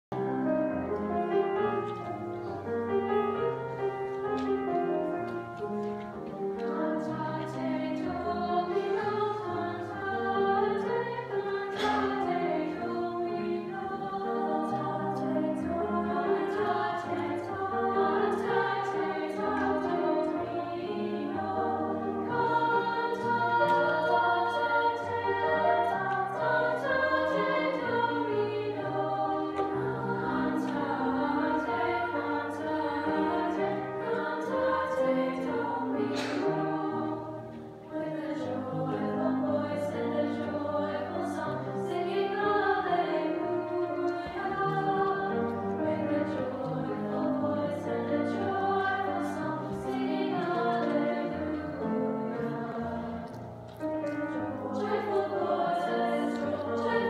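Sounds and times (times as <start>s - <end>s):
vocal ensemble singing a canon: 6.4s - 57.0s.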